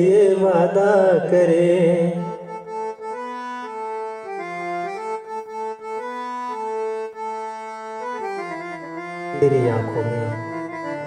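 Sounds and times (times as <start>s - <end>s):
reed instrument melody: 2.1s - 11.0s.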